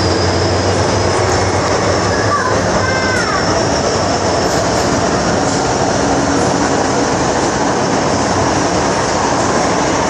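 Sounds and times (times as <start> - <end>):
metro train wheels on track: 0.0 - 10.0.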